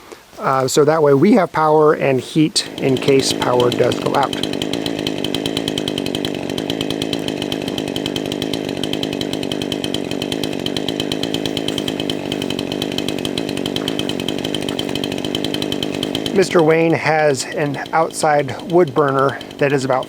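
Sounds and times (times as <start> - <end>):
chainsaw cutting wood: 0.3 - 20.0.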